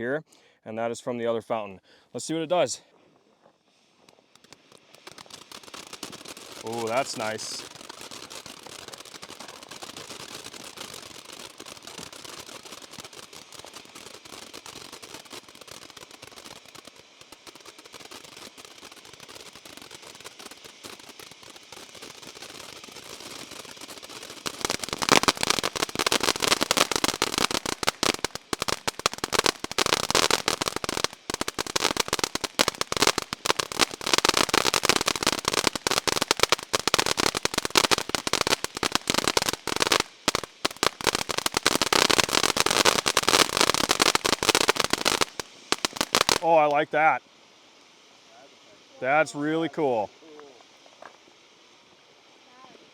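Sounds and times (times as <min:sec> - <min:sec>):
firework fountain hissing and crackling: 0:03.6 - 0:52.9.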